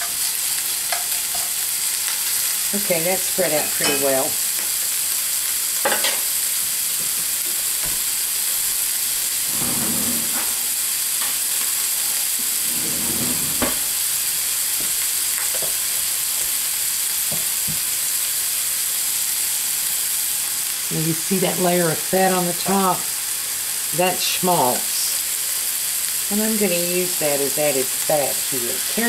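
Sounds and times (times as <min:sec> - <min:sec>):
sausage sizzling in a skillet: 0:00.0 - 0:29.0.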